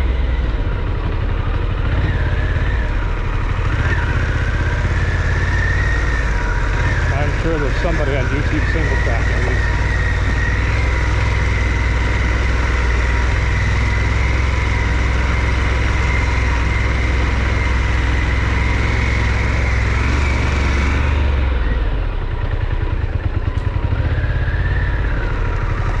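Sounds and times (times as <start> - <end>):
motorcycle engine running: 0.0 - 26.0
wind: 0.0 - 26.0.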